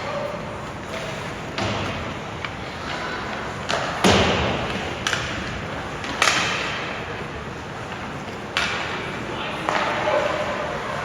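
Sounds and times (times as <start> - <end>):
echoing knocks on rink boards: 0.0 - 10.7.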